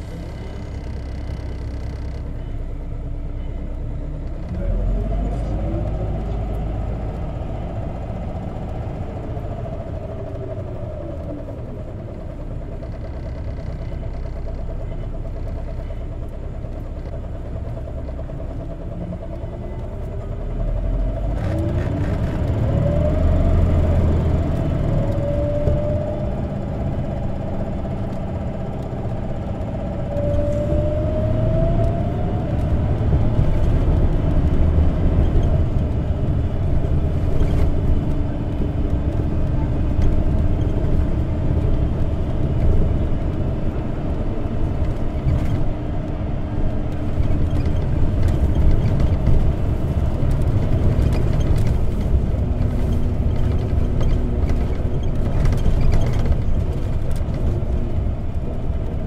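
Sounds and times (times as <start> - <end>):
bus engine rumble: 0.0 - 59.0
rising engine whine: 0.0 - 59.0
road noise: 0.0 - 59.0.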